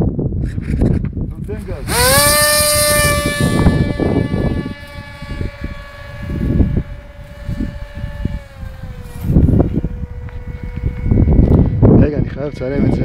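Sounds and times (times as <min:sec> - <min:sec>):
wind buffeting microphone: 0:00.0 - 0:13.0
electric propeller motor whining: 0:01.6 - 0:13.0.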